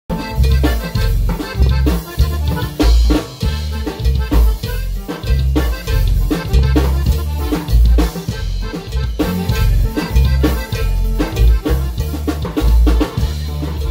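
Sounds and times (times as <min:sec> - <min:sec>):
dance band playing loud music: 0:00.1 - 0:13.9
deep bass notes: 0:00.1 - 0:13.9
drum kit beat: 0:00.1 - 0:13.9.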